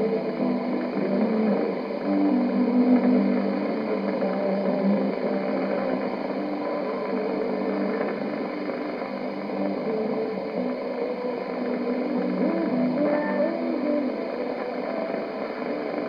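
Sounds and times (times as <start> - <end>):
radio music with held notes: 0.0 - 16.0
radio static hiss: 0.0 - 16.0.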